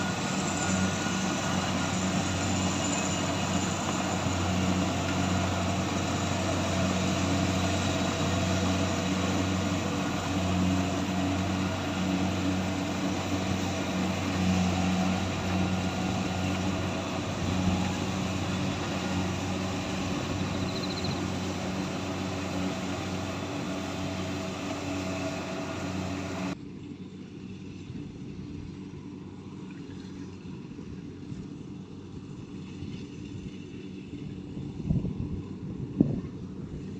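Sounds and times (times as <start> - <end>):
combine harvester drone: 0.0 - 36.9.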